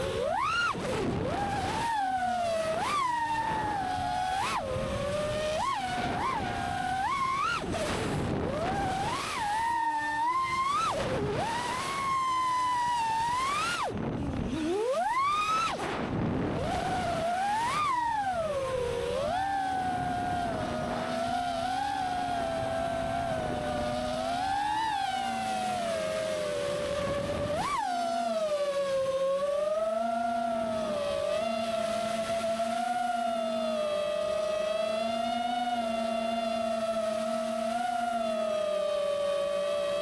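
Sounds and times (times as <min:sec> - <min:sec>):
drone motors whining: 0:00.0 - 0:40.0.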